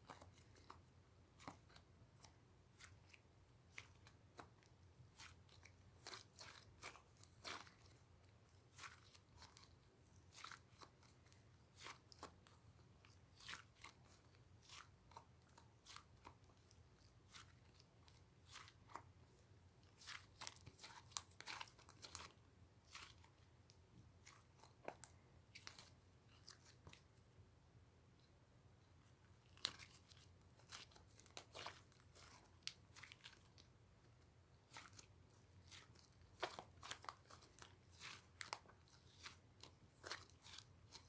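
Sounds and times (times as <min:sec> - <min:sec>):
faint crunching and crackling: 0:00.0 - 0:27.5, 0:28.1 - 0:41.0.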